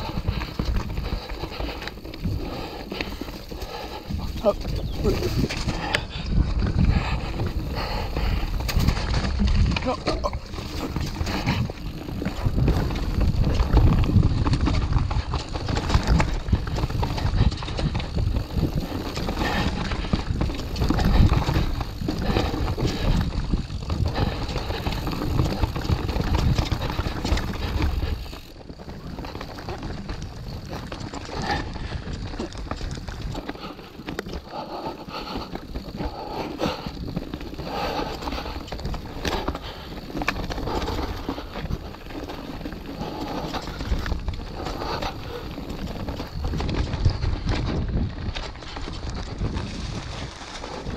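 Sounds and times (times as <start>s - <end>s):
bike rattling: 0.0s - 50.9s
bike tyres rolling over mud: 0.0s - 50.9s.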